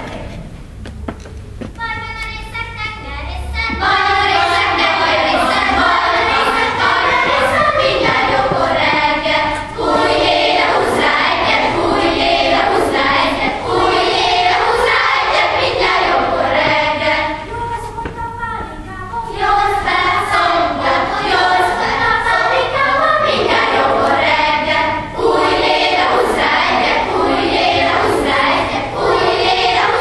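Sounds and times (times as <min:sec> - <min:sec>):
children's choir singing: 0:00.0 - 0:00.5, 0:03.2 - 0:30.0.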